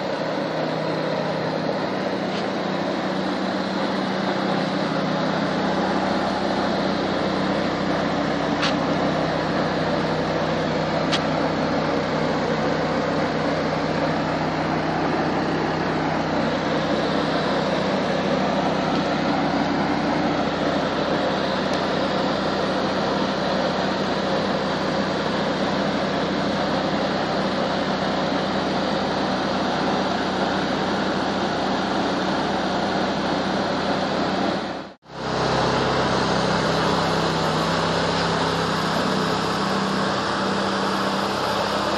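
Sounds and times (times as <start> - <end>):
motorized spray pump running: 0.0 - 41.9.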